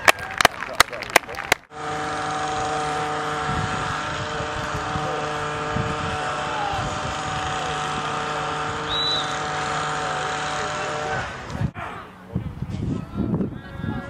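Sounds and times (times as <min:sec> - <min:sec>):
steady mechanical hum: 0:01.7 - 0:14.0.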